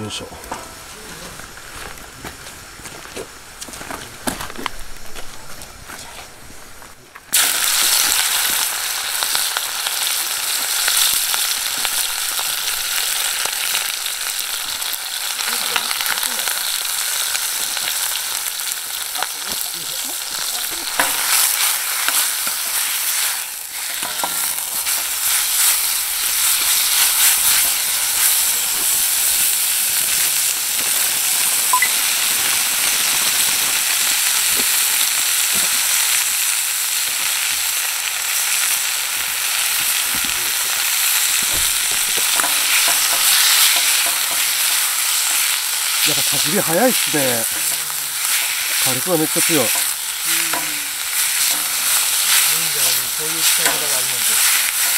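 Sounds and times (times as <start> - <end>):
meat sizzling in a wok: 6.5 - 54.9.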